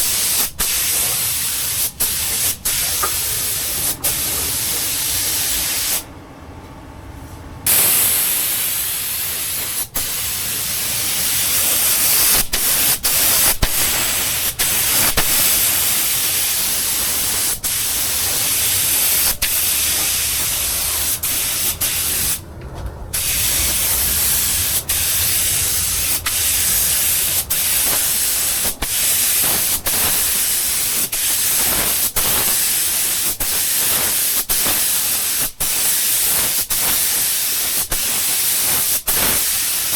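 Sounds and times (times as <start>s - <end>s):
spray gun hissing: 0.0s - 6.1s, 7.7s - 22.4s, 23.1s - 39.9s.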